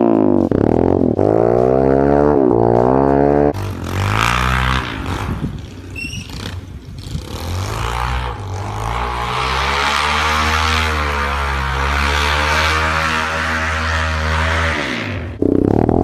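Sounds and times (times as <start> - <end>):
small motorcycle engine revving: 0.0 - 15.4.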